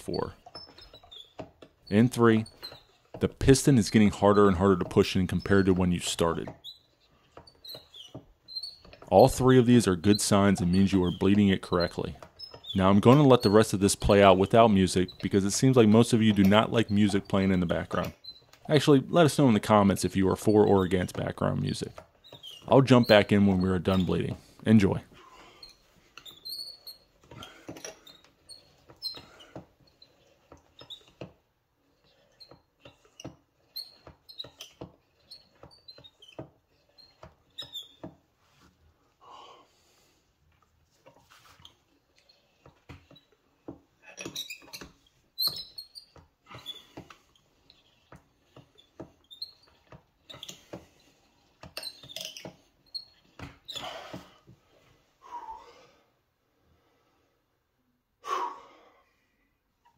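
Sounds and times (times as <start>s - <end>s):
short high squeaks: 0.0s - 38.7s, 40.9s - 54.4s.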